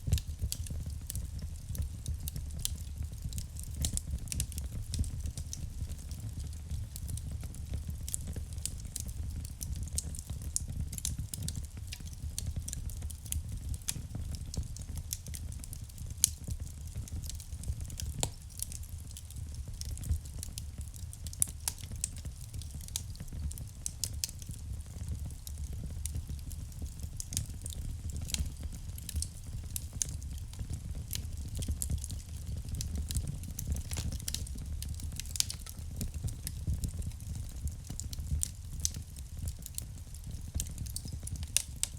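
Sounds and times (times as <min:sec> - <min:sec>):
fire crackling and popping: 0:00.0 - 0:41.9
fire flames rumbling: 0:00.0 - 0:41.9.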